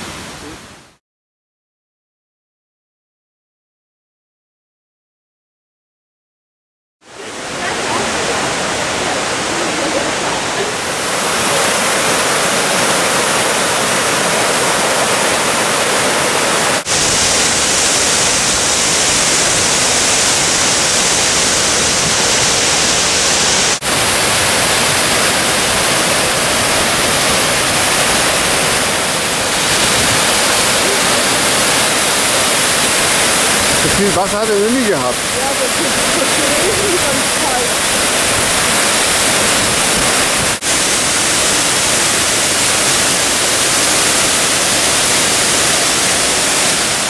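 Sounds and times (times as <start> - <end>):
waterfall rushing: 0.0 - 1.0, 7.1 - 47.0.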